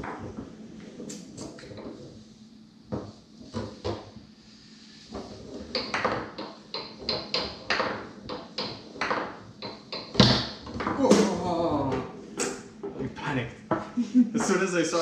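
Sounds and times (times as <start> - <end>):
foosball ball knocking: 0.0 - 2.1, 2.9 - 4.3, 5.1 - 13.0, 13.7 - 14.6.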